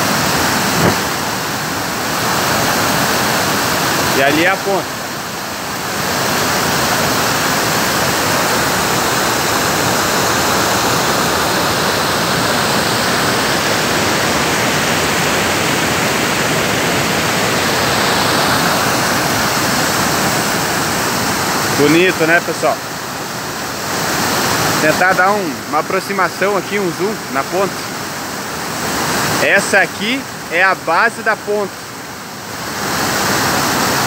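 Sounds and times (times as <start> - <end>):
waterfall rushing over rocks: 0.0 - 34.0.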